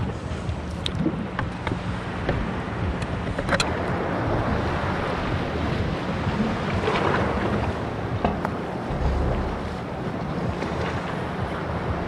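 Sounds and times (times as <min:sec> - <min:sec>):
sea waves on rocky shore: 0:00.0 - 0:12.0
wind buffeting microphone: 0:00.0 - 0:12.0.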